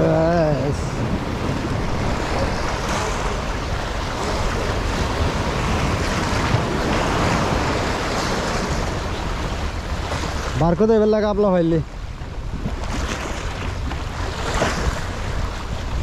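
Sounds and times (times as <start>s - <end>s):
wind noise on microphone: 0.0s - 10.7s, 11.8s - 16.0s
sea waves washing: 0.0s - 16.0s.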